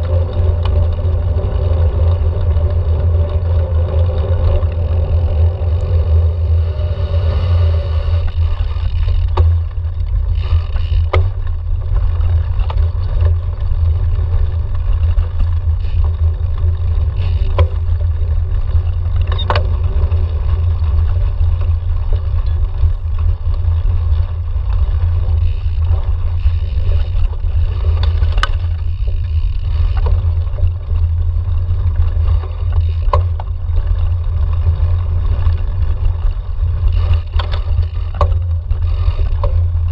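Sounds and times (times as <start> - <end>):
bike rattling over bumps: 0.0 - 39.9
tyres running over dirt: 0.0 - 39.9
wind buffeting microphone: 0.0 - 39.9.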